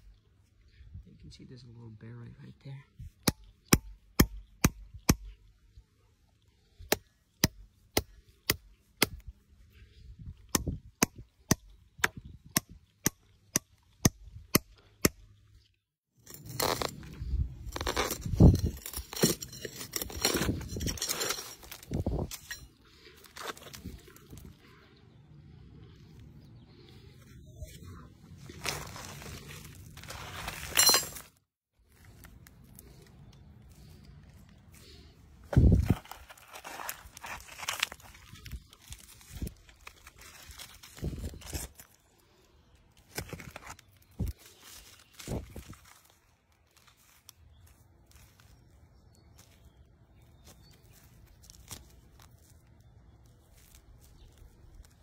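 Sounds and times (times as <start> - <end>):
gravel crunching and clinking: 6.1 - 55.0.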